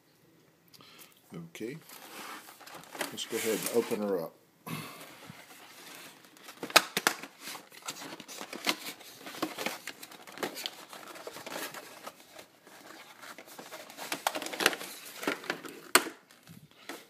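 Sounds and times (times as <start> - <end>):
cardboard and plastic crinkling: 1.8 - 4.2, 5.0 - 17.0.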